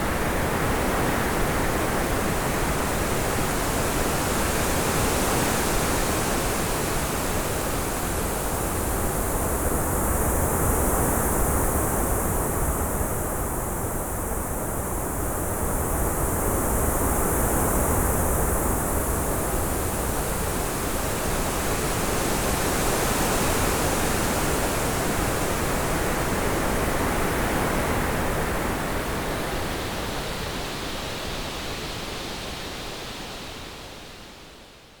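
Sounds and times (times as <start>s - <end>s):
synthetic wind-like hiss: 0.0s - 35.0s.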